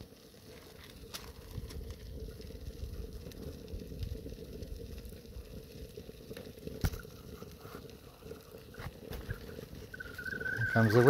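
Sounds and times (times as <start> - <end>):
fire crackling: 0.0 - 11.0
water rumbling near the boil: 0.0 - 11.0.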